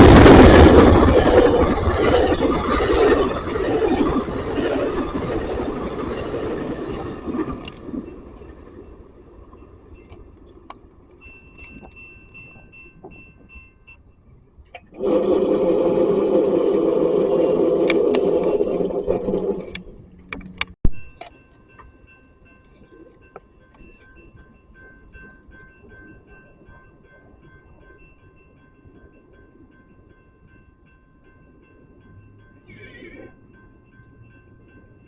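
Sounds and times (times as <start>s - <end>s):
train running noise: 0.0s - 35.0s.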